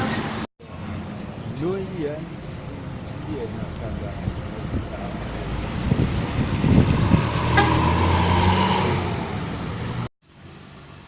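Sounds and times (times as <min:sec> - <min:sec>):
bus driving past: 0:00.0 - 0:11.0
road background noise: 0:00.0 - 0:11.0.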